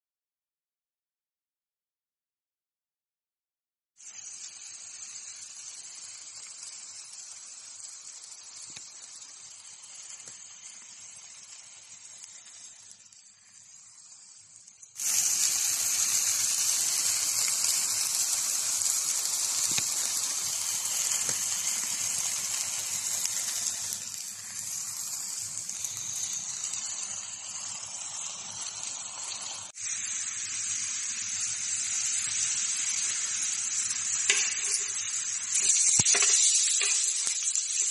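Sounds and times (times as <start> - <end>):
patties sizzling on a griddle: 4.0 - 37.9.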